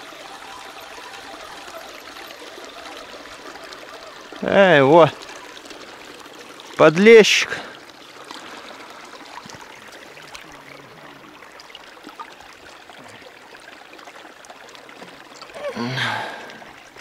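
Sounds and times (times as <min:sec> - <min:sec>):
water lapping on stony shore: 0:00.0 - 0:17.0.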